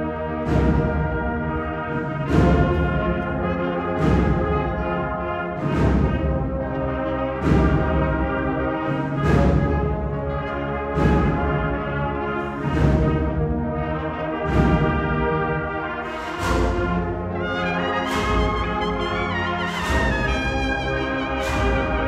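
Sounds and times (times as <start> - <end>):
brass band chords: 0.0 - 22.0
loud percussion hits: 0.2 - 10.3, 11.0 - 13.8, 14.4 - 22.0.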